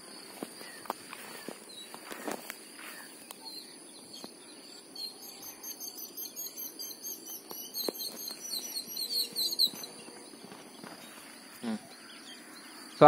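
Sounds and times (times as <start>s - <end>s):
birds chirping: 0.0s - 13.0s
insects droning: 0.0s - 13.0s.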